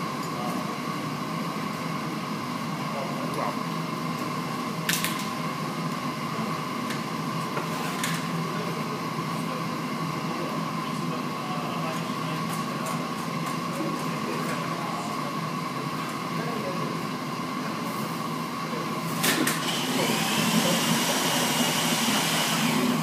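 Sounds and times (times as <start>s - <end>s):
mechanical hum with high whine: 0.0s - 23.0s.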